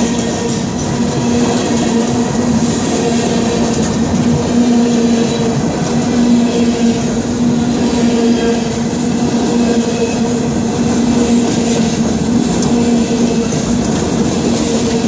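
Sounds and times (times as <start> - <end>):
freight car wheels rumbling on rails: 0.0 - 15.0.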